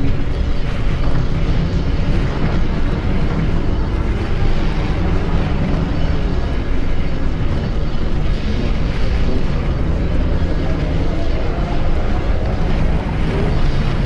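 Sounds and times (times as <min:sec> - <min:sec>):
distorted noise music: 0:00.0 - 0:14.0.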